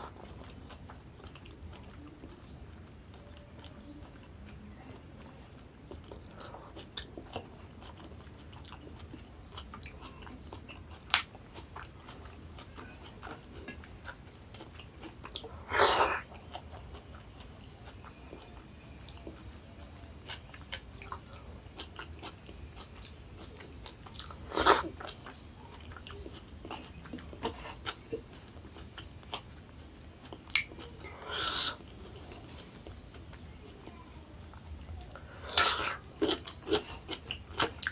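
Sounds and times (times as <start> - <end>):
person chewing food: 0.0 - 37.9.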